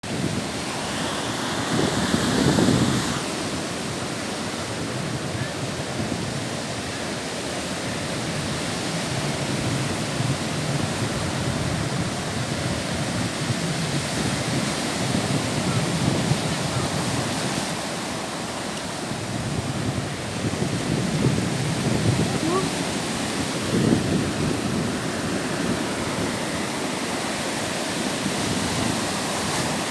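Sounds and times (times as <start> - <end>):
waves washing on shore: 0.0 - 29.9.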